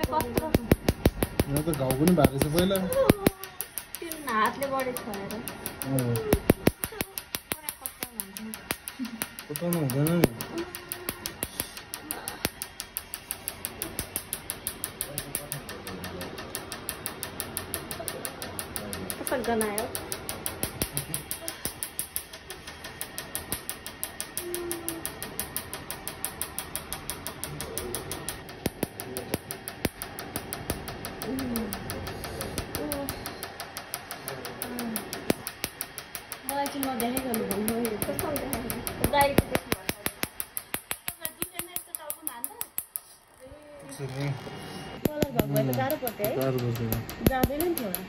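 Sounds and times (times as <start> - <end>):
laser firing rapid snapping pulses: 0.0 - 43.2, 45.0 - 48.0.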